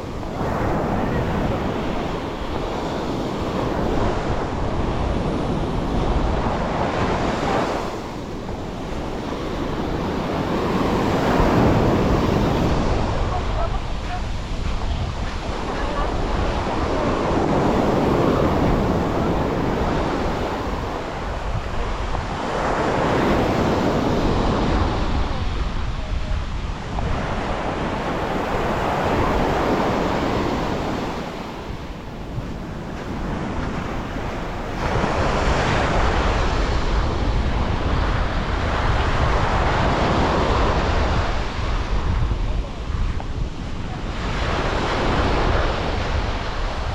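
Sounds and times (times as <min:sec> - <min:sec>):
sea waves breaking on beach: 0:00.0 - 0:46.9
wind buffeting microphone: 0:00.0 - 0:46.9.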